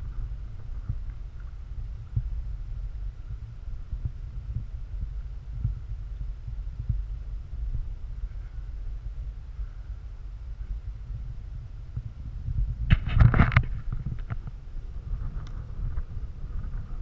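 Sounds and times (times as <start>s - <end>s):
muffled low rumbling: 0.0s - 17.0s.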